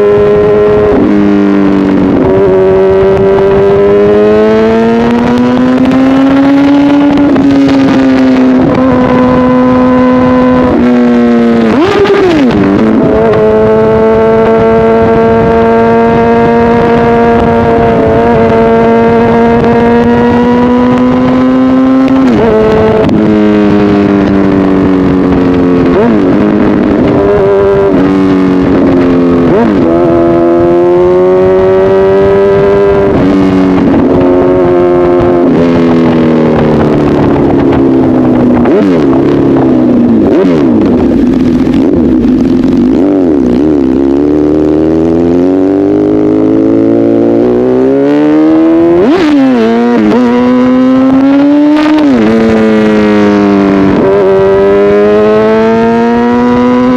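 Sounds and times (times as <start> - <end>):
motorcycle engine with loud exhaust: 0.0 - 56.9.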